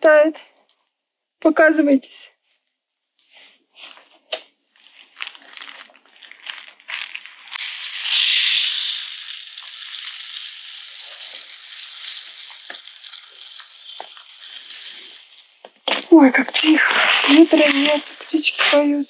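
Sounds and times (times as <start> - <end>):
rustling and crinkling: 2.4 - 19.0.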